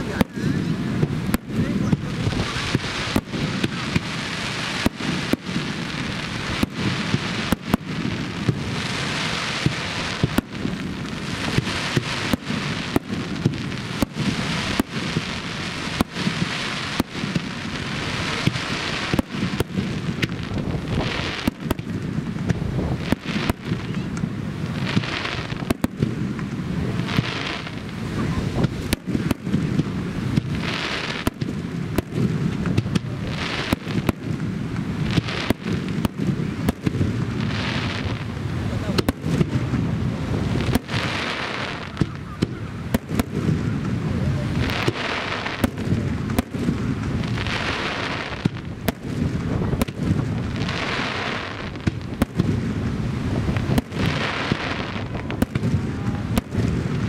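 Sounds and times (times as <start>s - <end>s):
fireworks launching and bursting: 0.0s - 57.0s
wind on microphone: 0.0s - 57.0s.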